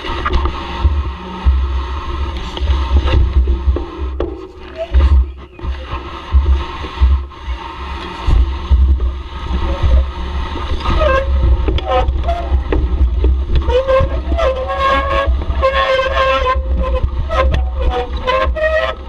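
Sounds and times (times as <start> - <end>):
bicycle rattles and knocks: 0.0 - 7.2, 8.2 - 19.0
wind rumble on microphone: 0.0 - 19.0.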